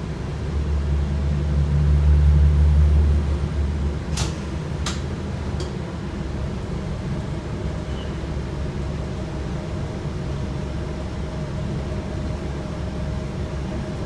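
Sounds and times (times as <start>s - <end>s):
bus diesel engine rumbling: 0.0s - 12.3s.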